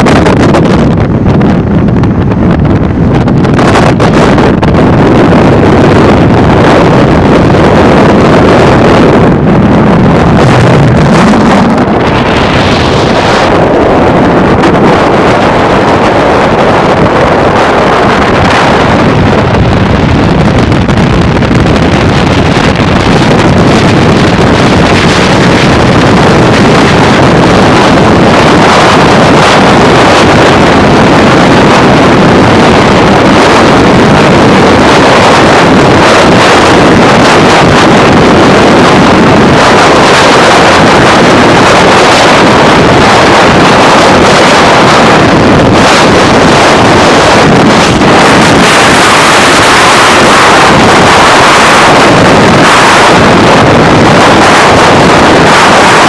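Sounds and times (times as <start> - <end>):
road noise: 0.0 - 56.0
wind rushing on microphone: 0.0 - 56.0.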